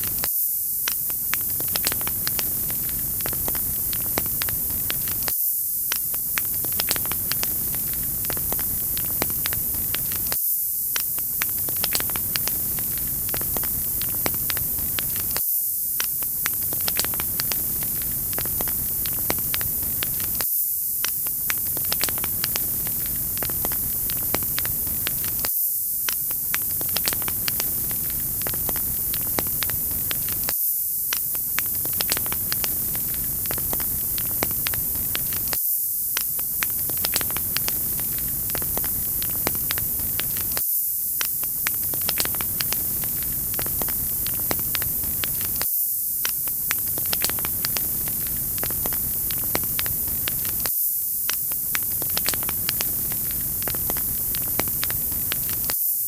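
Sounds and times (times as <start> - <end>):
wood fire crackling: 0.0 - 0.3, 0.9 - 5.3, 6.0 - 15.4, 16.0 - 20.4, 21.0 - 30.5, 31.1 - 40.6, 41.2 - 45.6, 46.2 - 50.7, 51.3 - 55.7.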